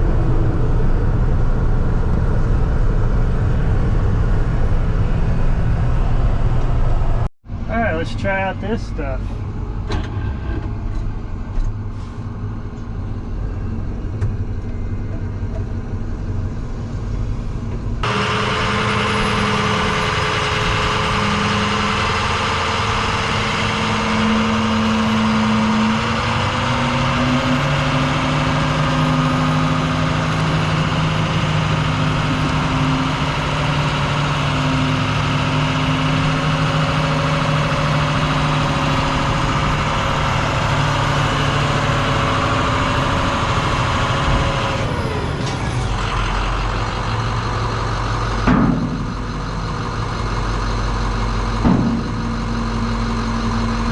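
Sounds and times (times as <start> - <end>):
diesel truck engine idling: 0.0 - 53.9.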